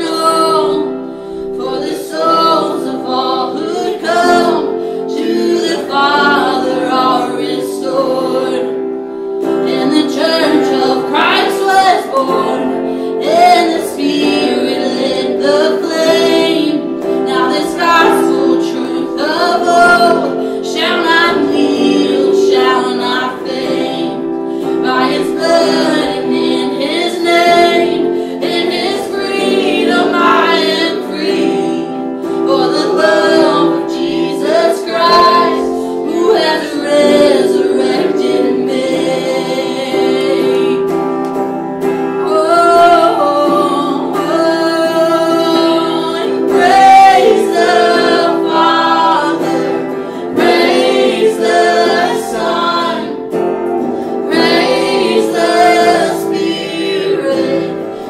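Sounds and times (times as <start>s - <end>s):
held chords: 0.0s - 58.0s
woman singing worship song: 0.0s - 58.0s.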